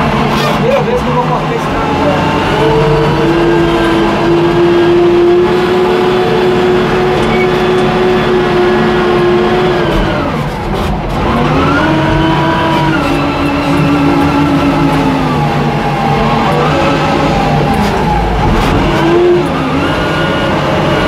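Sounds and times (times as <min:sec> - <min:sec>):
wheel loader diesel engine running: 0:00.0 - 0:21.0.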